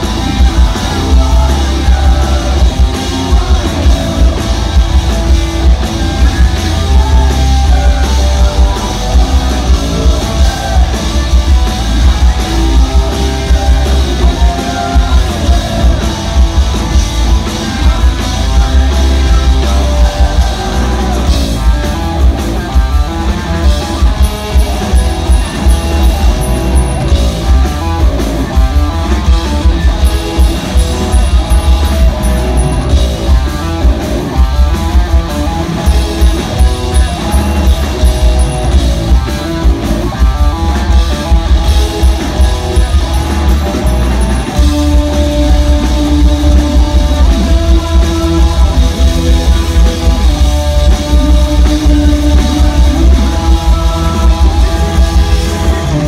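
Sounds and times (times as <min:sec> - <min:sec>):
distorted electric guitars: 0:00.0 - 0:56.0
electric bass: 0:00.0 - 0:56.0
pounding drum kit: 0:00.0 - 0:56.0.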